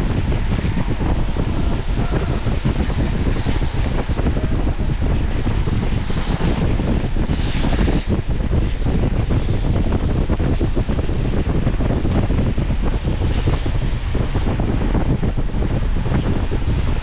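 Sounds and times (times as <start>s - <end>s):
car driving rumble: 0.0s - 17.0s
wind buffeting microphone: 0.0s - 17.0s.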